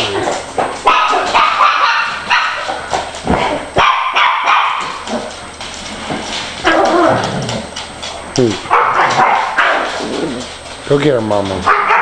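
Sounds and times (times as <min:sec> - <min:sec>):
dogs barking and yipping: 0:00.0 - 0:08.1, 0:08.7 - 0:10.8, 0:11.6 - 0:12.0.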